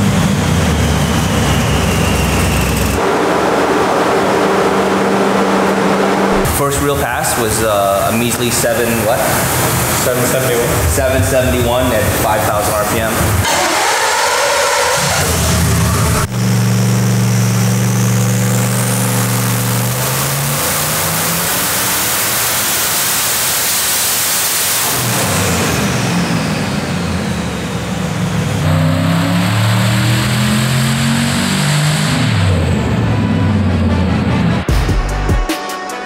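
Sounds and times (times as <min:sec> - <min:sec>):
car engine revving on dyno: 0:00.0 - 0:34.7
high turbo whine: 0:00.0 - 0:35.2.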